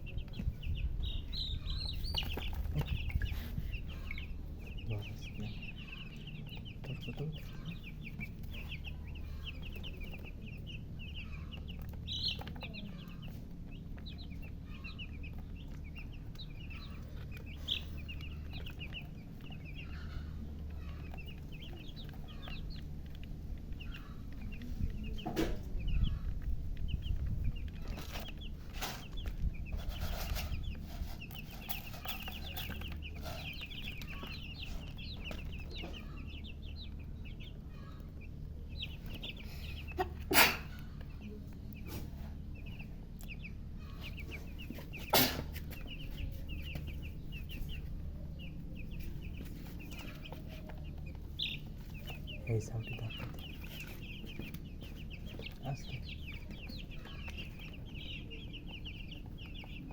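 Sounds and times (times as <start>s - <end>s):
baby chicks peeping: 0.0s - 59.9s
steady low hum: 0.0s - 59.9s.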